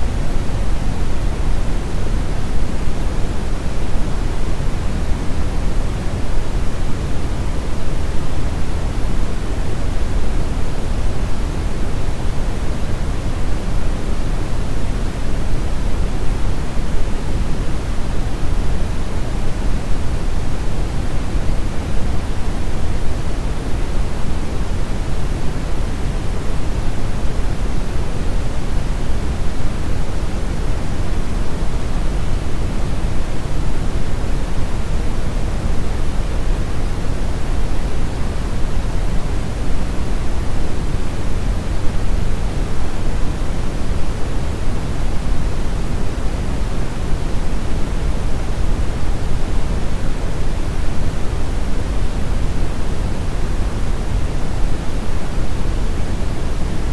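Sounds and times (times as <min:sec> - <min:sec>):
brown noise hiss: 0:00.0 - 0:56.9.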